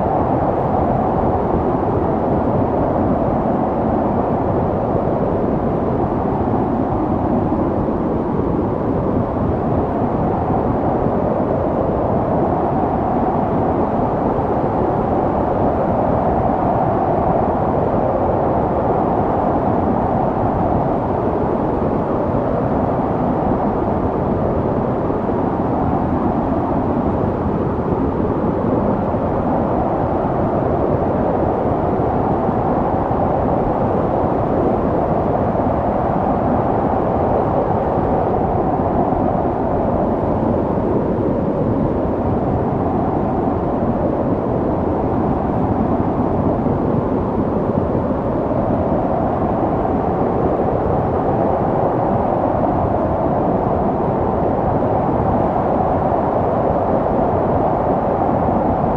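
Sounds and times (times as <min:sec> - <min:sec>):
strong wind blowing: 0:00.0 - 0:58.9.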